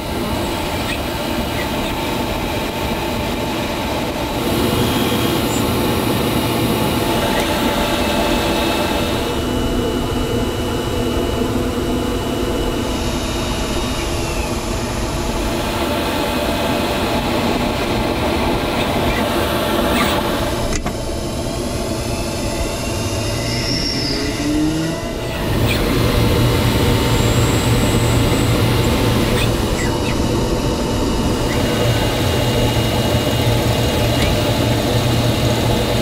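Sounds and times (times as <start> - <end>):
high machine whine: 0.0 - 36.0
lathe mechanical hum: 0.0 - 36.0.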